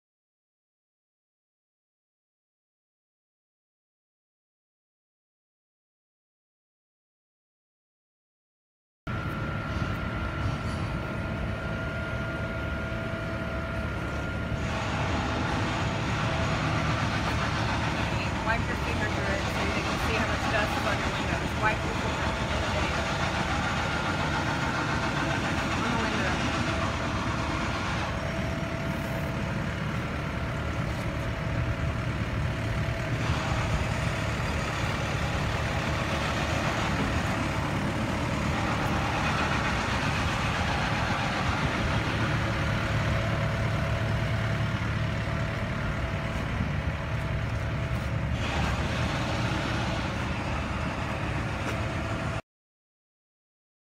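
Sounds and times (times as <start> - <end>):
mechanical rumble: 9.1 - 52.4.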